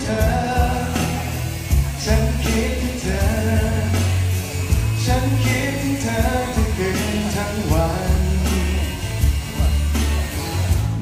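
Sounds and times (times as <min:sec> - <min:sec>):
band over loudspeakers: 0:00.0 - 0:11.0
man singing pop ballad: 0:00.0 - 0:11.0
steady bass line: 0:00.0 - 0:11.0.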